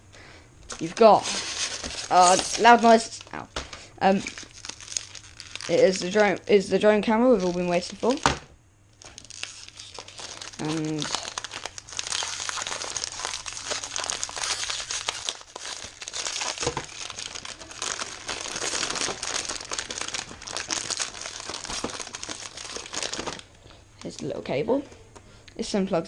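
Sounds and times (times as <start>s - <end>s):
plastic packaging crinkling: 0.7s - 8.4s, 9.0s - 24.5s.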